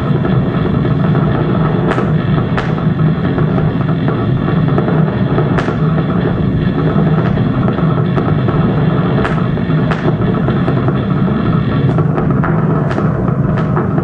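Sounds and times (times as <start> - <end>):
low drone of noise music: 0.0 - 14.0.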